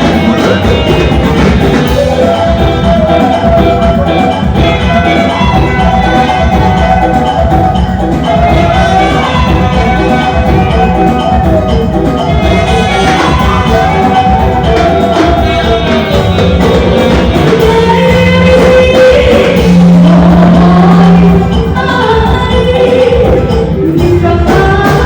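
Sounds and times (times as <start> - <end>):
band music with steady beat: 0.0 - 25.0.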